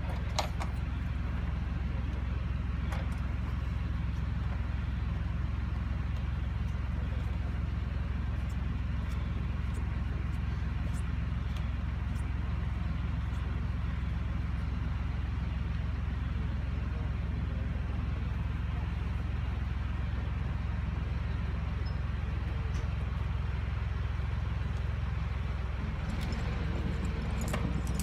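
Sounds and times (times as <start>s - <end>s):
tractor engine humming: 0.0s - 28.0s.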